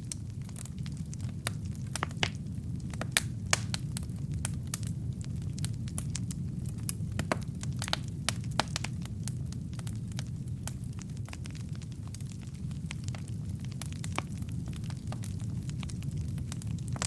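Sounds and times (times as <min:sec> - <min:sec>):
logs crackling in fireplace: 0:00.0 - 0:17.0.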